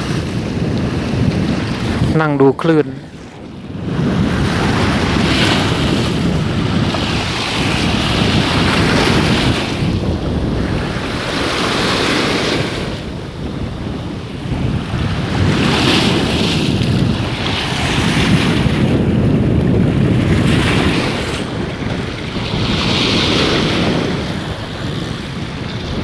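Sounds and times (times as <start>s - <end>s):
sea waves washing against rocks: 0.0s - 26.0s
wind rumbling on microphone: 0.0s - 26.0s.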